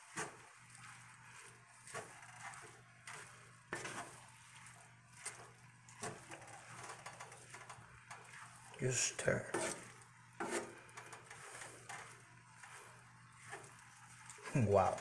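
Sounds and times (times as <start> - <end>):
spatula scraping a skillet: 0.0 - 15.0.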